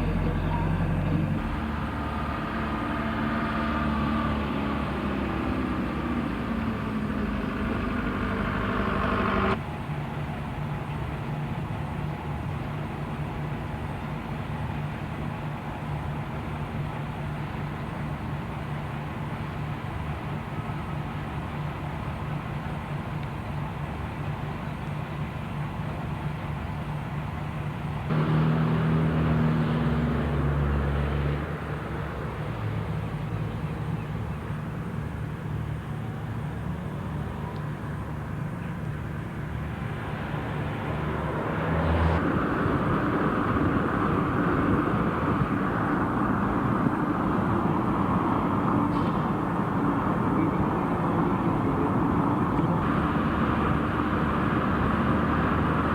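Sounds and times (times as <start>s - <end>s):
road noise: 0.0s - 55.9s
vehicle engine hum: 0.0s - 55.9s.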